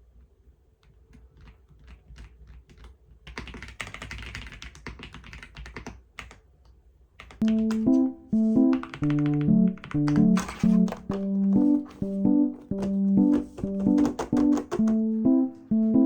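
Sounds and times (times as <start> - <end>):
keyboard typing: 1.4 - 6.4, 7.2 - 16.0.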